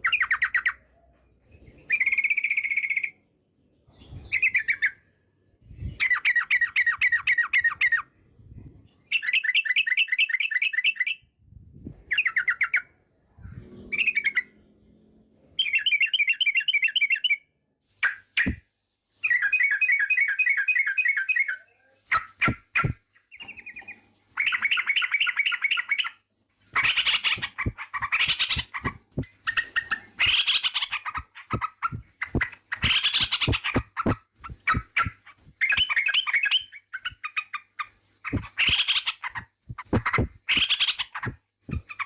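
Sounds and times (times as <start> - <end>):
bird chattering song: 0.0 - 8.2, 8.9 - 11.2, 12.0 - 42.0.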